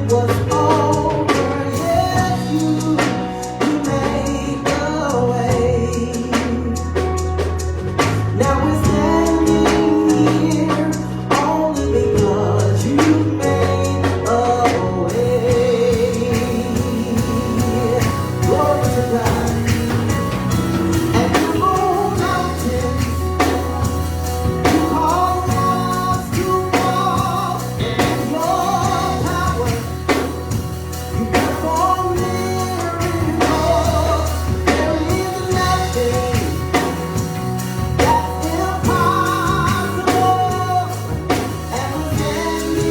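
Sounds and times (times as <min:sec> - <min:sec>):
band with bass and drums: 0:00.0 - 0:42.9
voices singing: 0:00.0 - 0:42.9.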